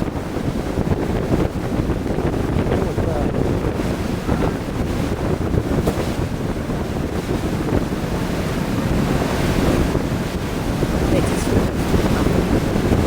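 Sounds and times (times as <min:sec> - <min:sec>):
low boat rumble: 0:00.0 - 0:13.0
water rushing past: 0:00.0 - 0:13.0
wind buffeting microphone: 0:00.0 - 0:13.0.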